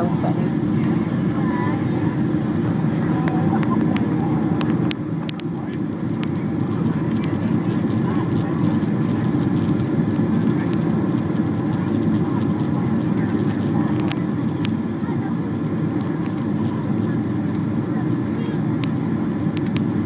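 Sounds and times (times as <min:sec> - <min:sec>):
jet engines and airflow rushing: 0:00.0 - 0:20.0.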